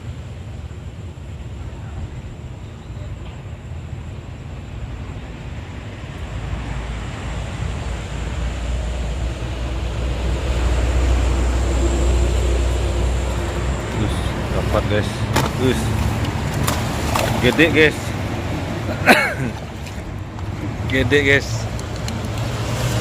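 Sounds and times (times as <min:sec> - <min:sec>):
road vehicle passing: 0:04.2 - 0:23.0.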